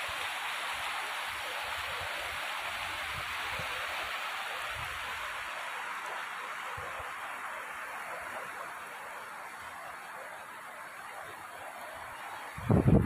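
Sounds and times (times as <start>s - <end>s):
river water babbling over stones: 0.0s - 13.0s.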